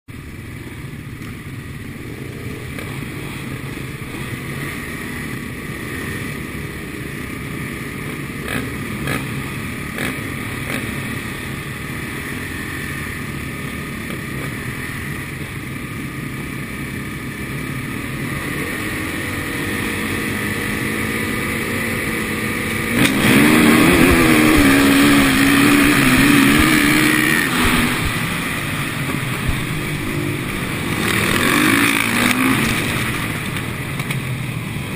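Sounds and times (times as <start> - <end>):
motorcycle accelerating: 0.1 - 34.9
motorcycle engines running: 0.1 - 34.9.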